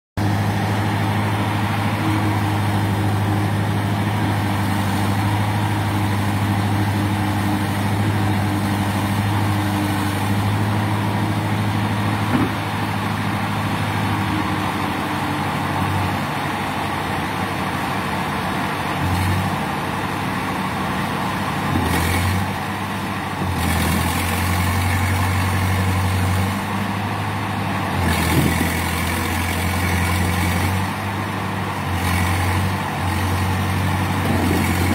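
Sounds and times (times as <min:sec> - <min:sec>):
bulldozer diesel engine running: 0:00.2 - 0:34.9.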